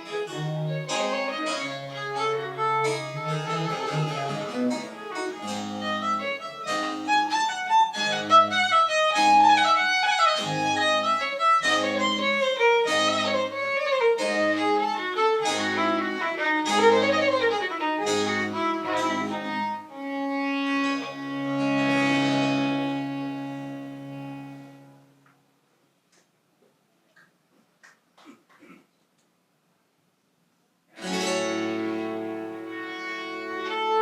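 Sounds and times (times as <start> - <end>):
violin melody: 0.0 - 25.1, 31.0 - 34.0.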